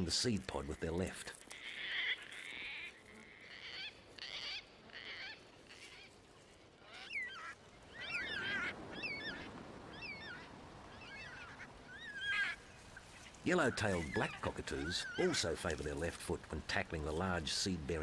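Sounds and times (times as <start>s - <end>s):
raspy bird calls: 0.5s - 16.1s.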